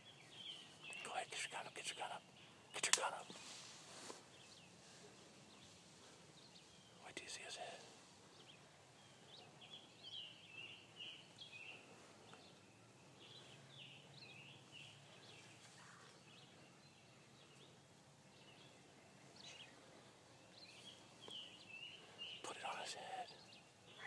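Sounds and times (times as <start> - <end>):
quiet outdoor hush: 0.0 - 24.0
songbird chirps and twittering: 0.0 - 24.0.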